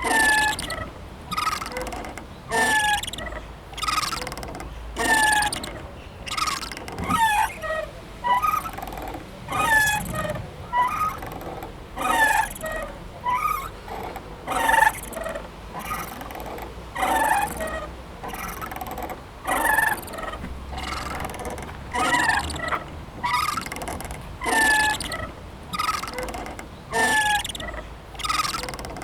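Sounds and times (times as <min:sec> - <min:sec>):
swing squeaking: 0:00.0 - 0:29.0.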